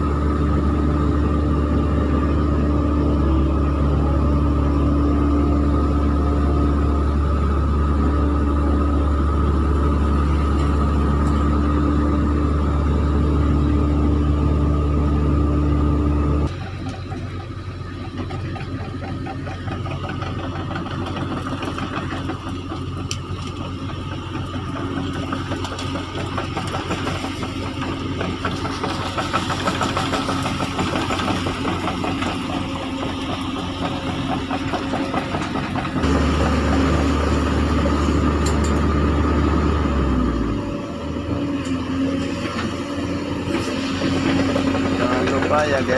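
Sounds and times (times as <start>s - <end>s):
excavator diesel engines under load: 0.0s - 45.9s.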